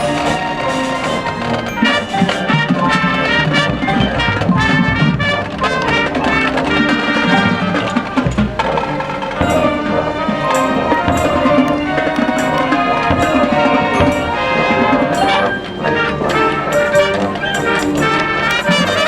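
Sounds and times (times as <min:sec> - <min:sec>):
brass section playing fast figures: 0:00.0 - 0:19.0
marching percussion: 0:00.0 - 0:19.0.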